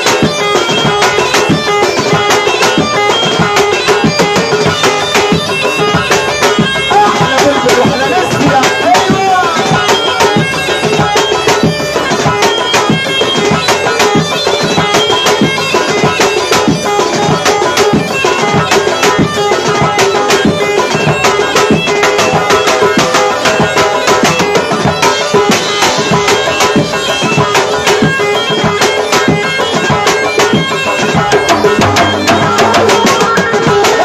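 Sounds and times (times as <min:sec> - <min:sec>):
bagpipe playing: 0:00.0 - 0:34.0
fast hand drum beat: 0:00.0 - 0:34.0.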